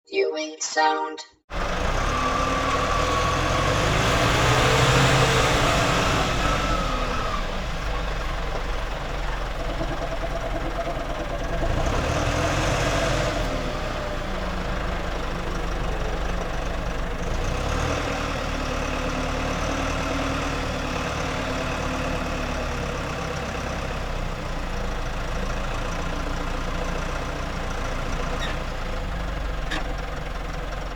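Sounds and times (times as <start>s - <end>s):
tractor engine rumble: 1.5s - 17.5s, 18.4s - 30.9s.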